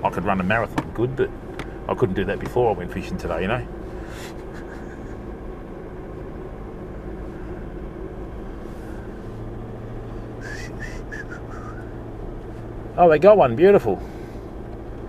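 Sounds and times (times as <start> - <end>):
vehicle engine drone from inside: 0.0 - 15.0.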